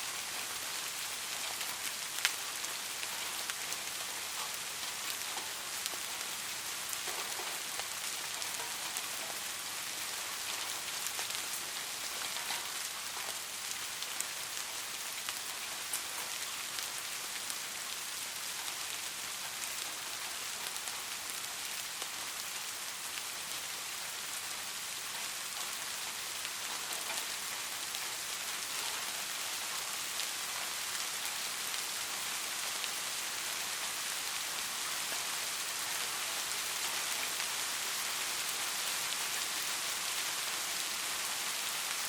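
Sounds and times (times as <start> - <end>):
light rain falling: 0.0 - 42.0.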